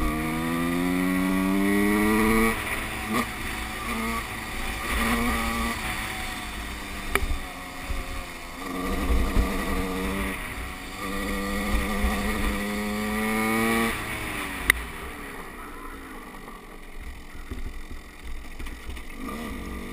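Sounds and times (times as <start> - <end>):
motorbike engine revving: 0.0 - 19.9.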